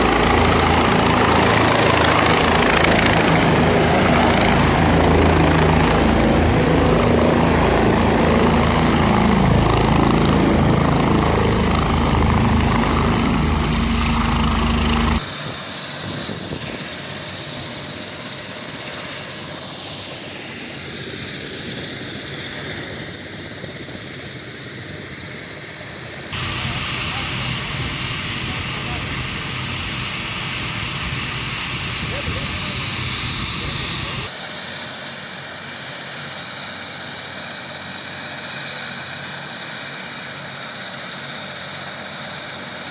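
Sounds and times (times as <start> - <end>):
helicopter running: 0.0 - 42.9.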